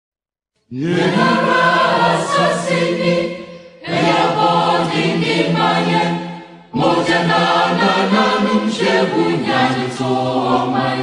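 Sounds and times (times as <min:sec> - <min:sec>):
choir singing: 0:00.7 - 0:11.0.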